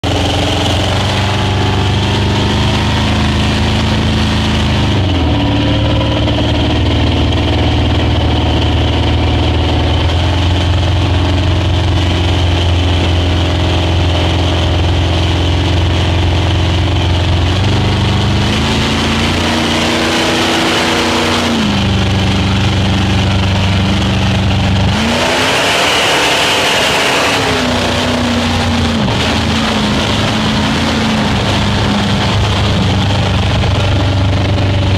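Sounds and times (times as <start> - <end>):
speedboat engine running: 0.0 - 34.9.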